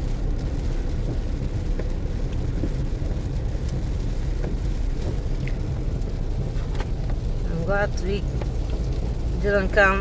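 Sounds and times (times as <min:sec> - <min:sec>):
car road noise: 0:00.0 - 0:10.0.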